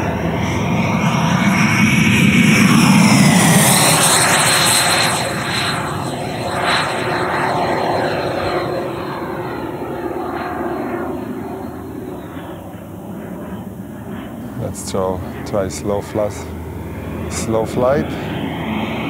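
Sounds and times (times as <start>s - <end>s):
electric jet fan whining: 0.0s - 19.0s.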